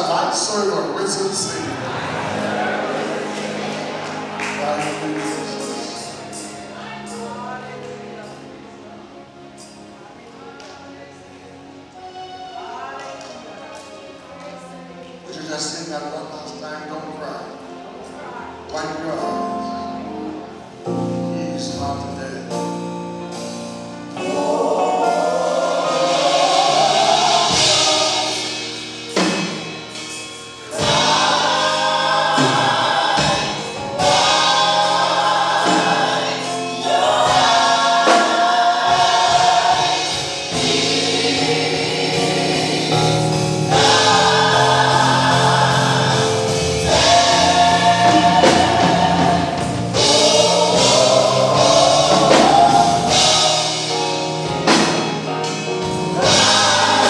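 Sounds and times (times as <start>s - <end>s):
church choir singing gospel: 0.0s - 57.0s.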